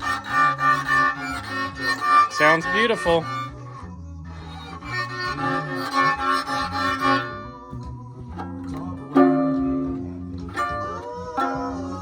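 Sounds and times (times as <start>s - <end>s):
out of tune violin: 0.0s - 12.0s
recorded song: 0.0s - 12.0s.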